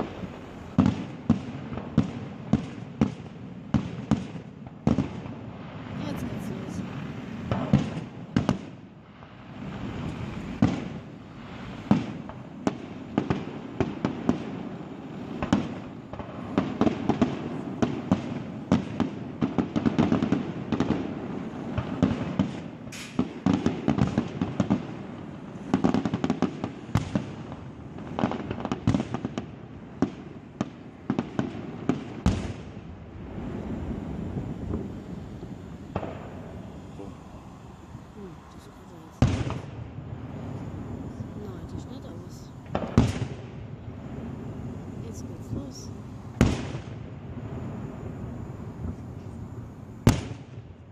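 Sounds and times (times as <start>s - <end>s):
fireworks bursts and crackling: 0.0s - 50.9s.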